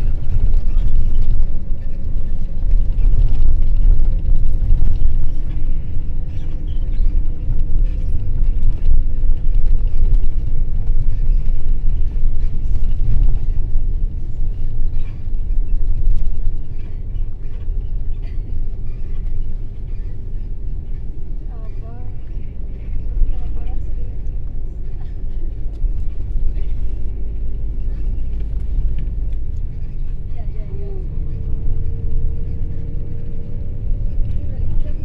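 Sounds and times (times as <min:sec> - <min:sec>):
vehicle engine and road rumble: 0:00.0 - 0:35.0.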